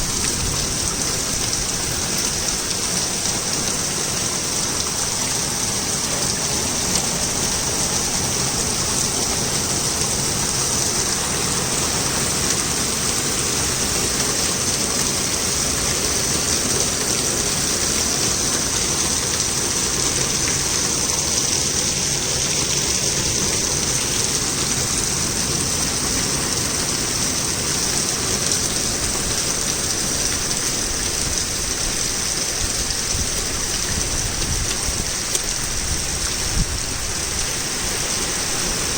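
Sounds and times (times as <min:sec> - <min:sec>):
torrential rain pouring: 0:00.0 - 0:38.9.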